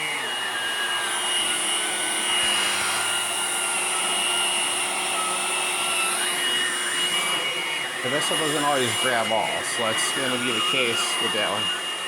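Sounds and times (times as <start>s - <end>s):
stick vacuum motor whine: 0.0s - 12.0s.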